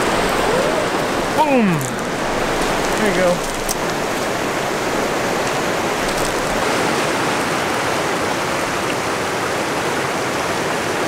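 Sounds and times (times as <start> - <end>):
river water rushing over rapids: 0.0 - 11.0.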